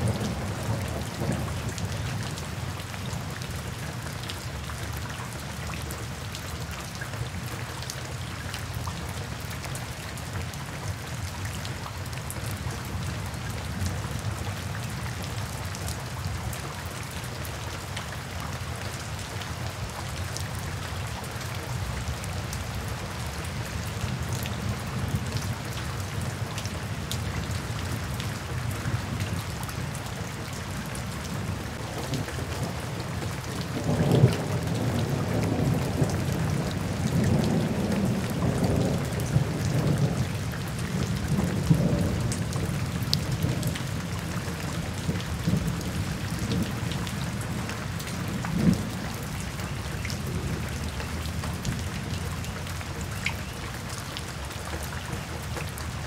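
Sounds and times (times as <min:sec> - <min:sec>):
rain on foliage: 0:00.0 - 0:56.0.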